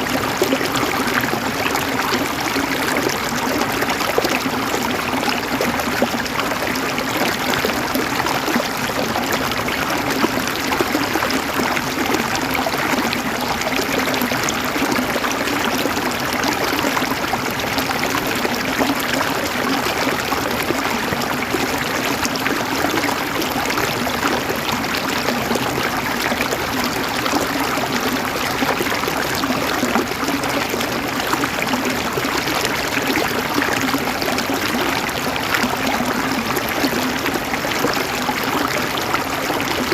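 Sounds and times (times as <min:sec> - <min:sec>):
river water gurgling over rocks: 0:00.0 - 0:39.9.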